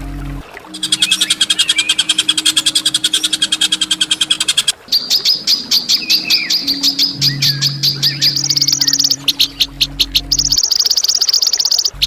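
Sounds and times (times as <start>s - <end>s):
low steady hum: 0.0s - 12.0s
songbird sharp chirps: 0.7s - 12.0s.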